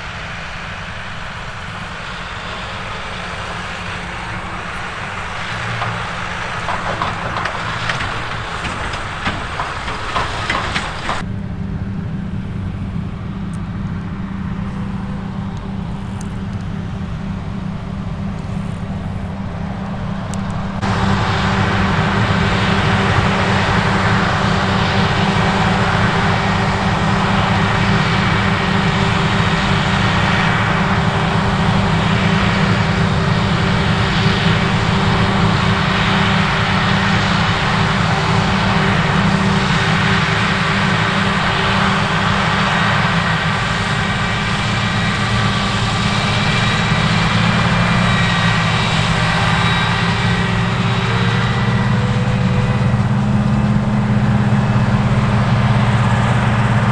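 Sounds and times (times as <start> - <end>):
diesel engine drone: 0.0 - 56.9
machinery whine: 0.0 - 56.9.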